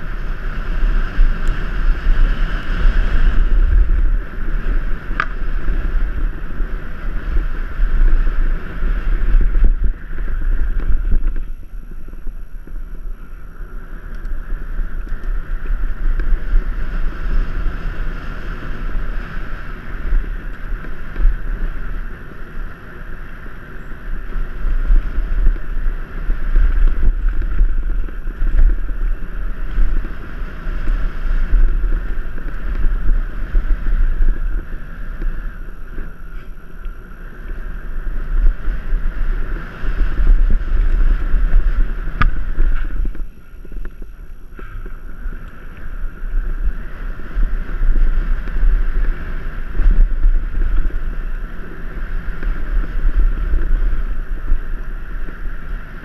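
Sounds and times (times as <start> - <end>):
bike tyres rumbling on dirt: 0.0 - 56.0
wind buffeting microphone: 0.0 - 56.0.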